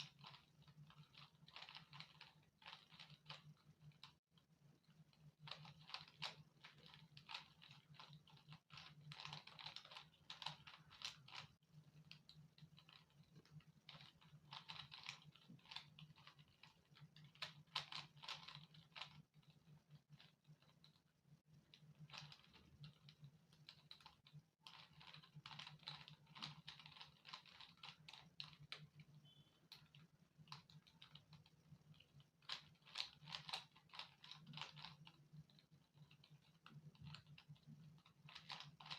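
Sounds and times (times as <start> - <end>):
plastic puzzle cube clicking: 0.0 - 4.2, 5.1 - 21.0, 21.7 - 38.9.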